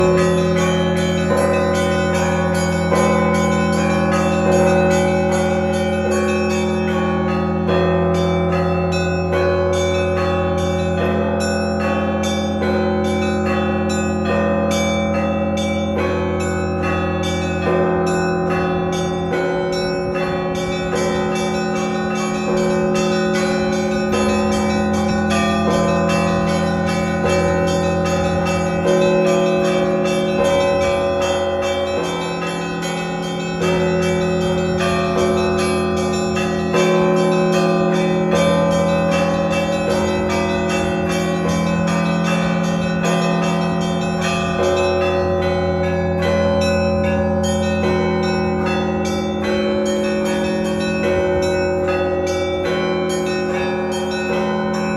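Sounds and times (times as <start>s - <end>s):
deep bell hum: 0.0s - 54.9s
large bells ringing: 0.0s - 54.9s
small bells struck rhythmically: 0.0s - 54.9s.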